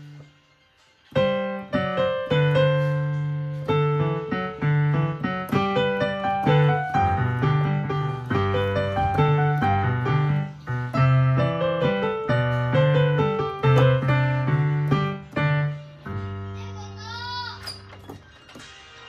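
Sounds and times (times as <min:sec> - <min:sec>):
digital piano playing a minuet: 0:00.0 - 0:18.2.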